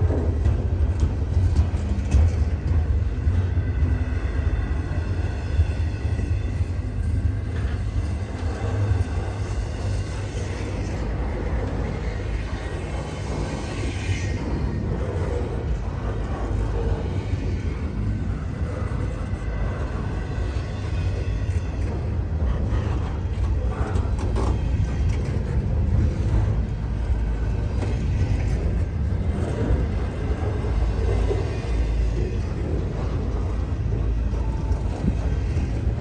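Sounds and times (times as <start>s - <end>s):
train cars clanking and creaking: 0.0s - 36.0s
train wheels rumbling on rail: 0.0s - 36.0s.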